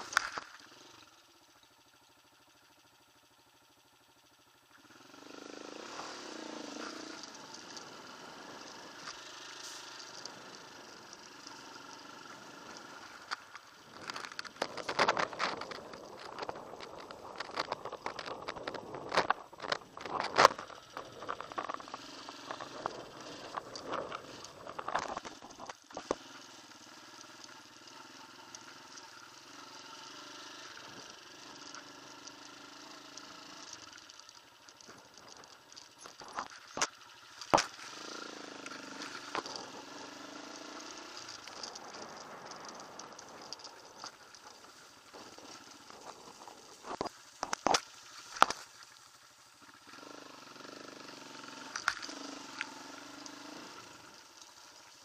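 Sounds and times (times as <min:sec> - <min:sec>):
motorcycle engine at low revs: 0:00.0 - 0:55.0.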